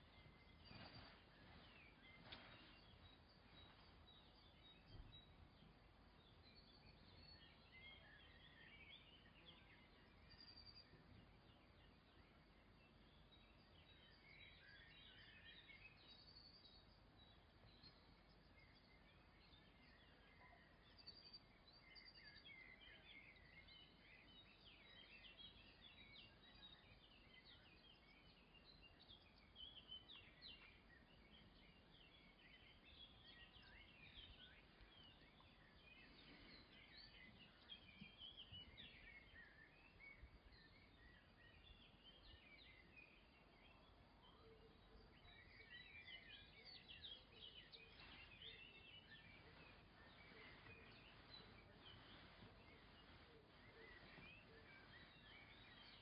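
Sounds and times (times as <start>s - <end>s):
faint bird chirping: 0.0s - 56.0s.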